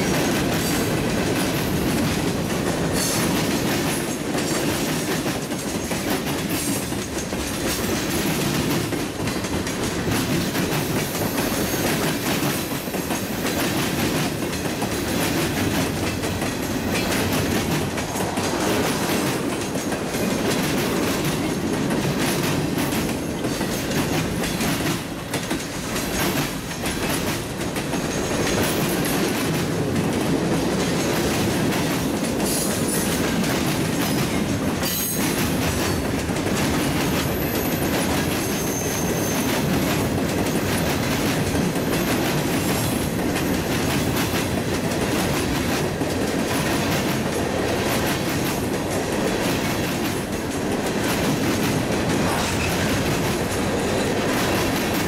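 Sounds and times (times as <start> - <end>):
train wheels clicking over rail joints: 0.0 - 55.0.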